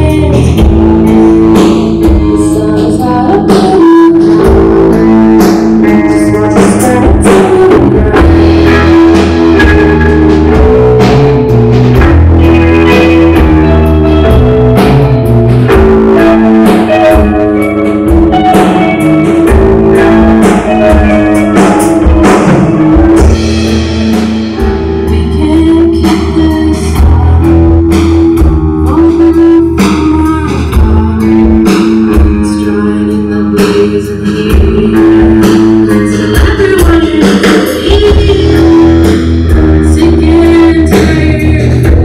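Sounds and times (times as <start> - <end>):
bass guitar: 0.0 - 42.0
drum kit beat: 0.0 - 42.0
electric guitars: 0.0 - 42.0.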